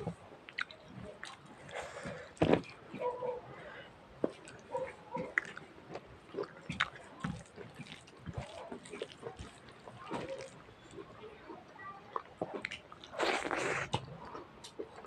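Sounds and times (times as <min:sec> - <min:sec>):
wet smacking mouth sounds: 0:00.0 - 0:03.1, 0:04.2 - 0:11.1, 0:12.1 - 0:15.0
person chewing food: 0:00.0 - 0:15.0.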